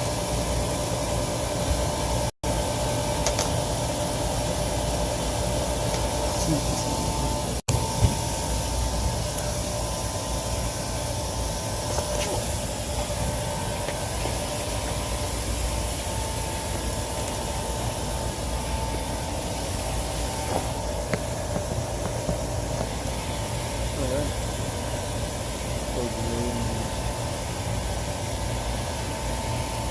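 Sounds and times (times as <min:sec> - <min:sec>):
rooftop hvac unit humming: 0:00.0 - 0:29.9.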